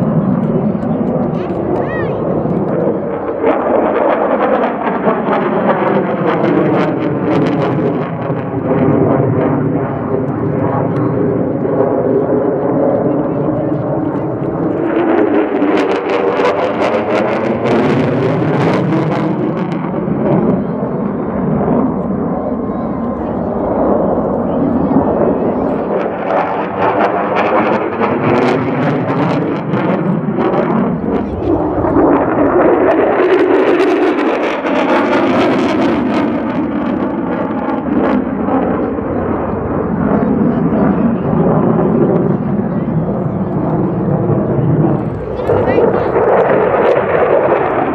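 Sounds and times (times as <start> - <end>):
jet engine passing overhead: 0.0 - 47.9.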